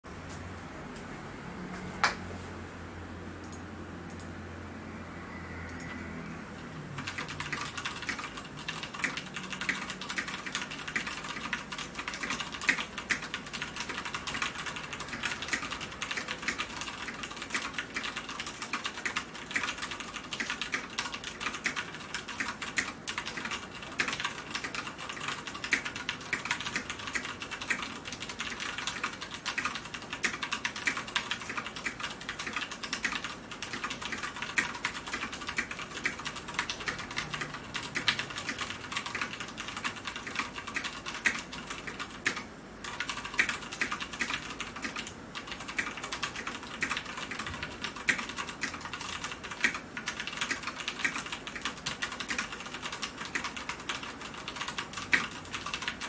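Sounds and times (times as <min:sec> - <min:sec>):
mechanical keyboard typing: 0:06.6 - 0:56.0.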